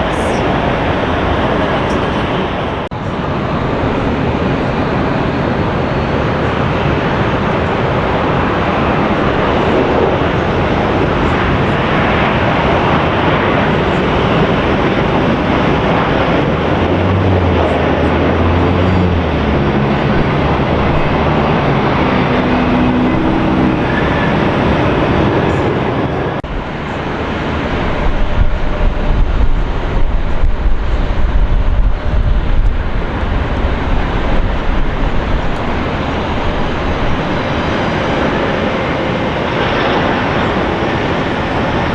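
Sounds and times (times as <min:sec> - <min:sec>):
jet engines running: 0:00.0 - 0:41.9
low unsteady rumble: 0:00.0 - 0:41.9.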